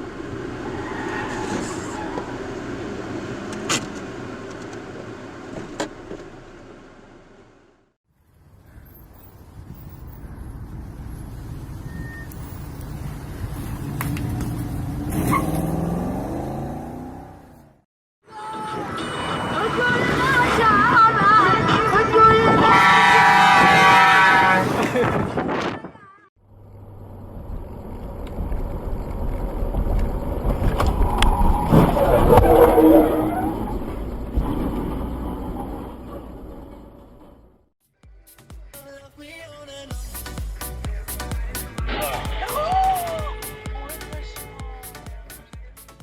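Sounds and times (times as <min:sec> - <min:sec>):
road vehicle noise: 0:00.0 - 0:37.7.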